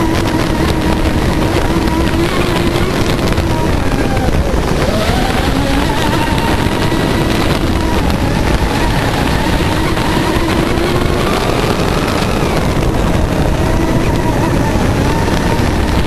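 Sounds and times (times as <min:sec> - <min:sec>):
electric motor whine: 0:00.0 - 0:16.0
wind: 0:00.0 - 0:16.0.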